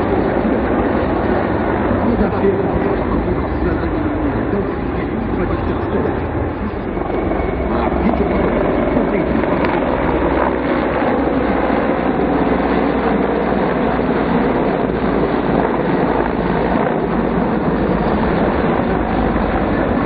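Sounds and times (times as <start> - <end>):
helicopters flying past: 0.0 - 20.0.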